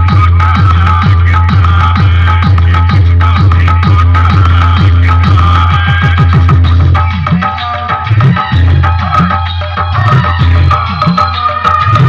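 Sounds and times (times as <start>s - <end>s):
dance mix with heavy bass beat: 0.0s - 12.0s.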